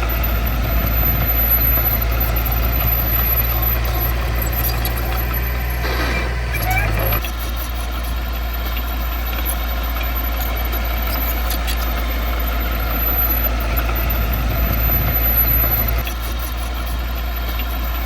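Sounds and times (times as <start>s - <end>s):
heavy diesel engine rumbling: 0.0s - 18.0s.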